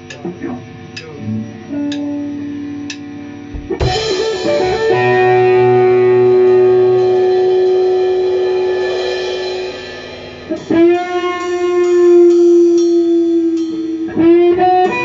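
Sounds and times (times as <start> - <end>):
sustained guitar notes: 0.0 - 15.0.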